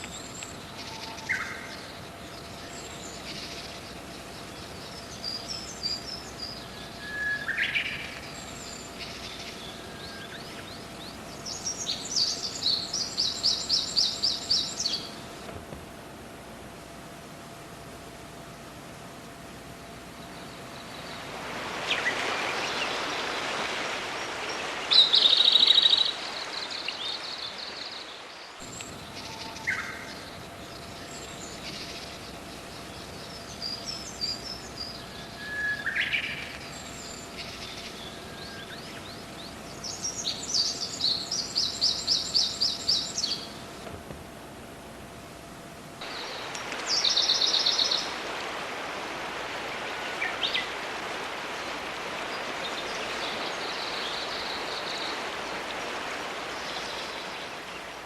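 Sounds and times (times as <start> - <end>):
songbirds trilling and chirping: 0.0 - 15.6, 19.3 - 44.4, 45.4 - 58.0
steady rushing hiss: 0.0 - 58.0.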